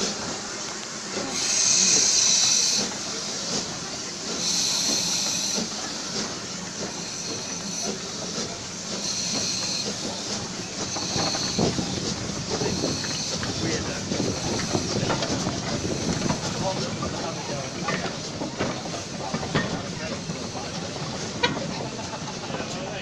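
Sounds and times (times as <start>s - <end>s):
steam locomotive hissing steam: 0.0s - 23.0s.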